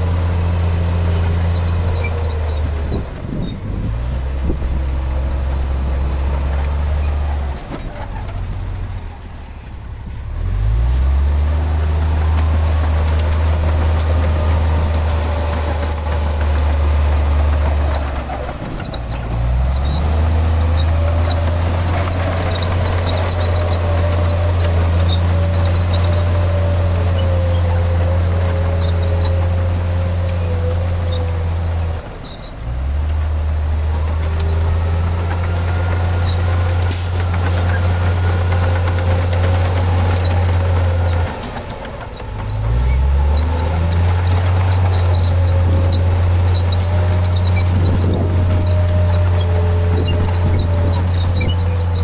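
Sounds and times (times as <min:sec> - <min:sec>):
heavy diesel engine under load: 0:00.0 - 0:52.0.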